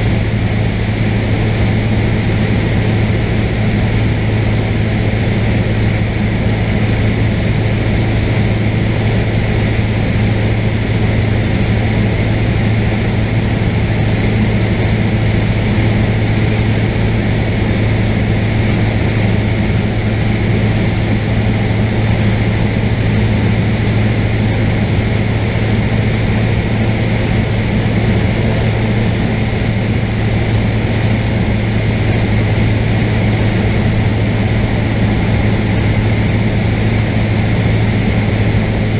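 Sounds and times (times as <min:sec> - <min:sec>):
airplane engine and propeller drone: 0:00.0 - 0:38.9.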